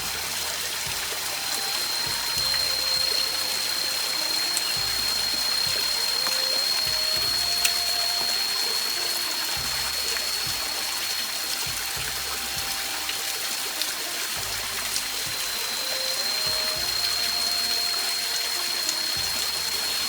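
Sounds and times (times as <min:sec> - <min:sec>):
high-pitched tone: 0:00.0 - 0:20.0
water rushing: 0:00.0 - 0:20.0.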